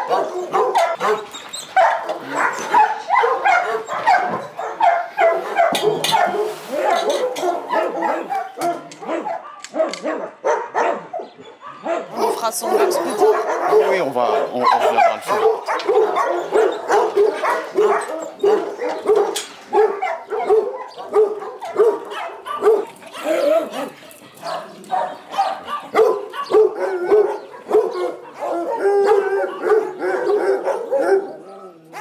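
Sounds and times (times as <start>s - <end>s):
dogs barking: 0.0s - 32.0s.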